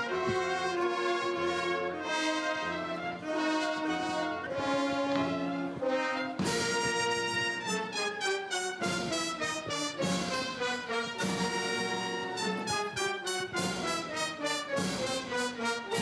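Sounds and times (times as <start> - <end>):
wind band playing march: 0.0 - 16.0.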